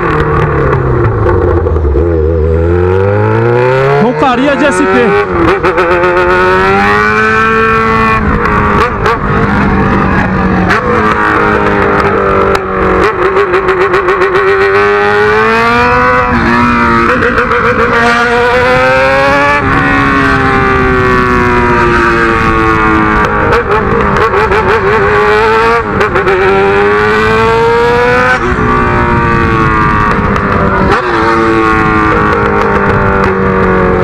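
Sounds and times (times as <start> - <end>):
motorcycle engine revving loudly: 0.0 - 34.0.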